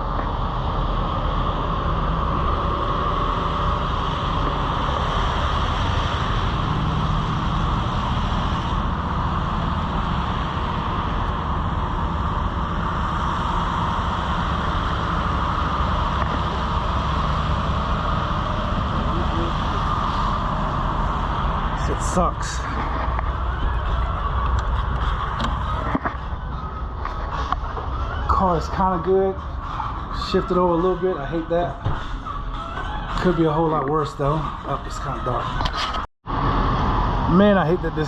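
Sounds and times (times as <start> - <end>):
vehicle low rumble: 0.0 - 38.0.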